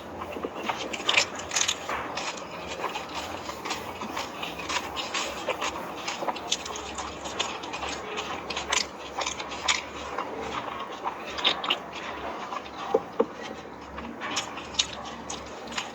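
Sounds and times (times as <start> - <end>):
crunching crisp shells: 0.2 - 15.9.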